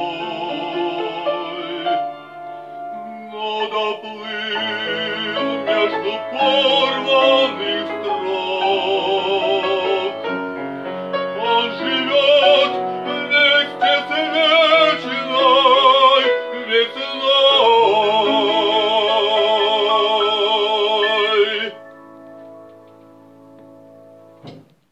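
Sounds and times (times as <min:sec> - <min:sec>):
man singing with vibrato: 0:00.0 - 0:21.9
piano accompaniment: 0:00.0 - 0:24.9.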